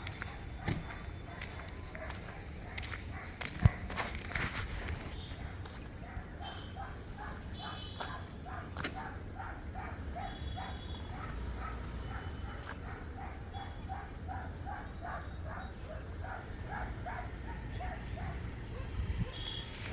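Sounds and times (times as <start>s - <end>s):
dog barking: 0.0s - 19.9s.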